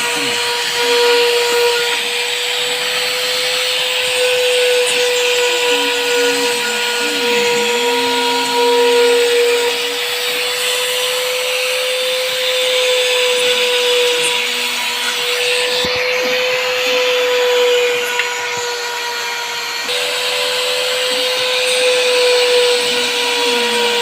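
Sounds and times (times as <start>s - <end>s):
router spindle whine: 0.0s - 24.0s.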